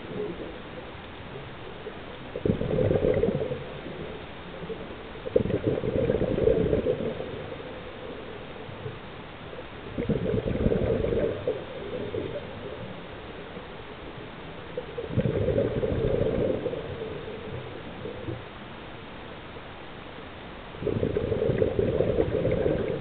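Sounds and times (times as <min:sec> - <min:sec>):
exhaled bubbles gurgling underwater: 0:00.0 - 0:18.8, 0:20.6 - 0:23.0.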